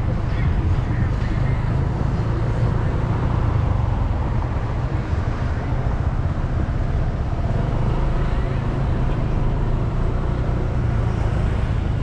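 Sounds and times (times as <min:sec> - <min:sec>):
traffic rumble and hiss: 0:00.0 - 0:12.0.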